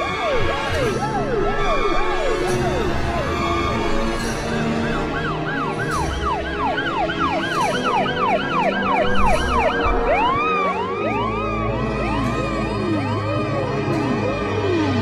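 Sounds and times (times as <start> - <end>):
electronic siren-like whoops: 0.0 - 15.0.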